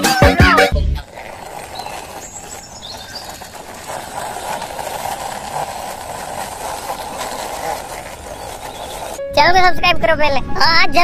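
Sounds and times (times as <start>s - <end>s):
toy wheels rolling on concrete: 0.4s - 9.6s.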